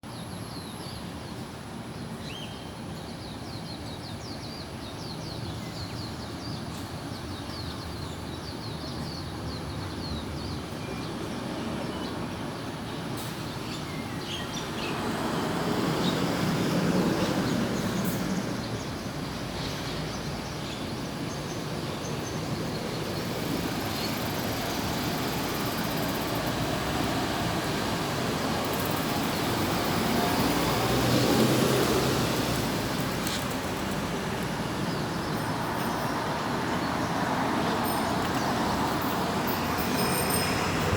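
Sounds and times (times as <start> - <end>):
small birds chirping: 0.1 - 40.8.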